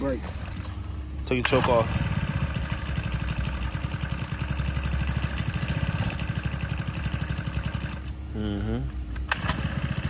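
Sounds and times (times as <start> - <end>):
small motorbike engine idling: 0.0 - 10.0.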